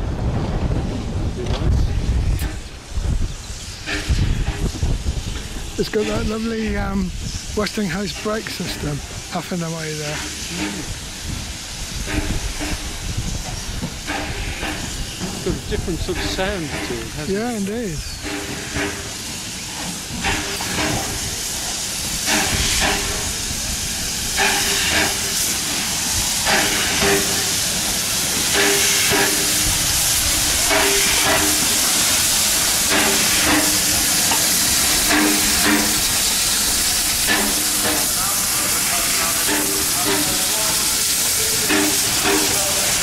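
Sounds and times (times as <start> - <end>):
steam hiss: 1.6 - 43.0.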